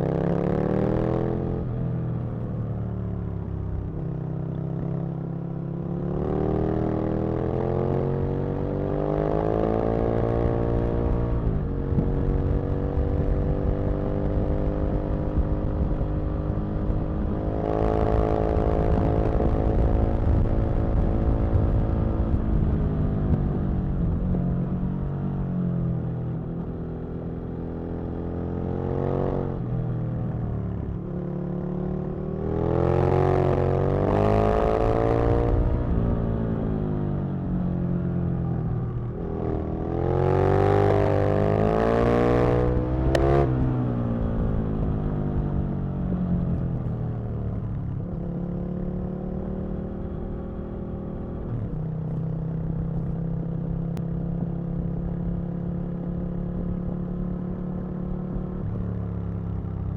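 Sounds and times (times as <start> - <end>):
motorcycle engine revving: 3.2 - 59.9.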